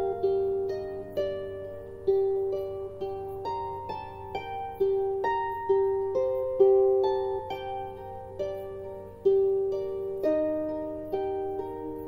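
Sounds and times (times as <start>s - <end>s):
harp notes plucked: 0.0s - 12.0s.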